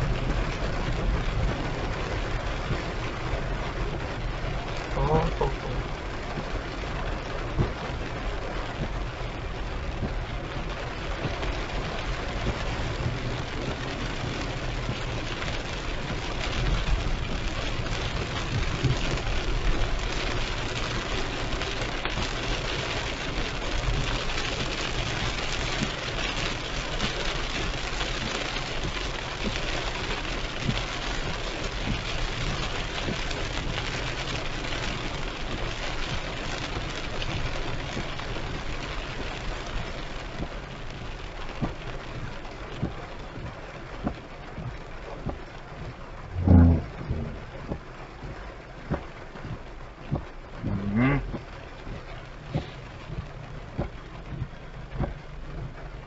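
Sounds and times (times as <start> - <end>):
car rumbling: 0.0 - 56.0
heavy rain on a car: 0.0 - 56.0.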